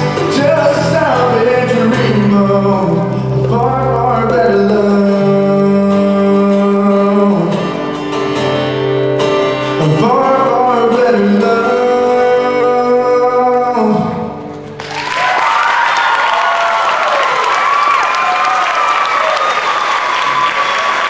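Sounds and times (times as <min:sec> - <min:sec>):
guitar: 0:00.0 - 0:21.0.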